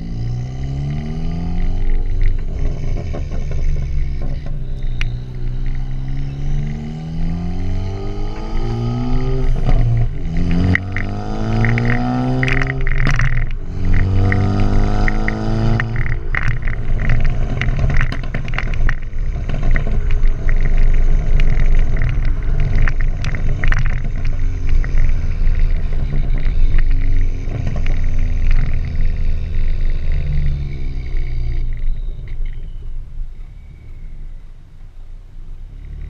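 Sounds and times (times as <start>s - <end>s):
exhaust pops and crackles: 0.0s - 33.5s
car engine revving: 0.0s - 34.1s.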